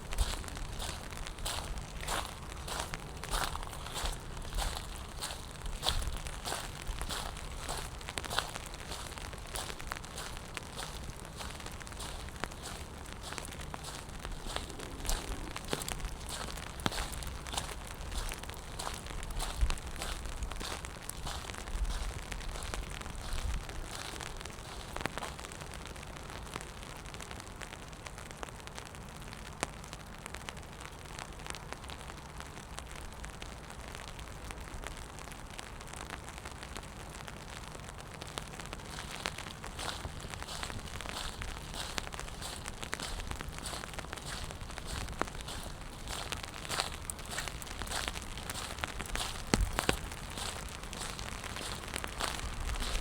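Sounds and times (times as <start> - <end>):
rain pattering on pavement: 0.0 - 53.0.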